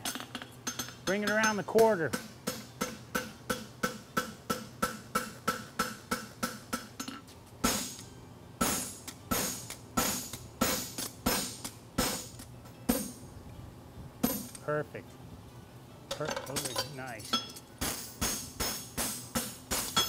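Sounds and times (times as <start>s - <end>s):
hammer striking horseshoe on anvil: 0.0s - 13.2s, 16.2s - 20.0s.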